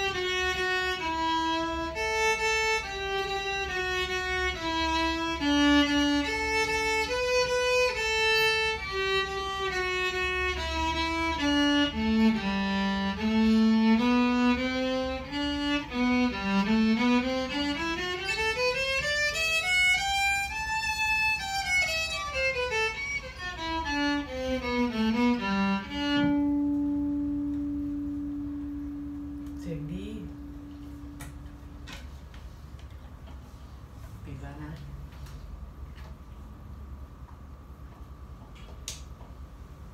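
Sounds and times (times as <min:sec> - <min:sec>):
electric violin melody: 0:00.0 - 0:32.0.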